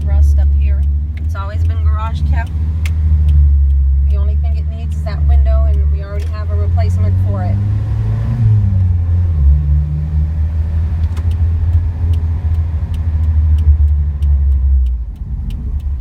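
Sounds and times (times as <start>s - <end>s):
faint regular ticking: 0.0s - 16.0s
truck engine humming: 0.0s - 16.0s.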